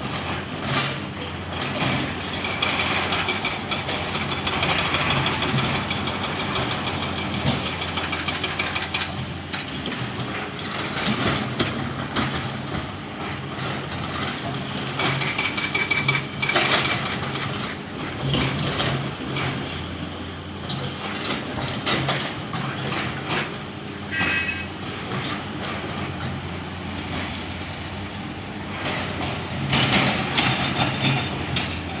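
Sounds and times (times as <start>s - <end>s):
heavy diesel engines running: 0.0s - 32.0s.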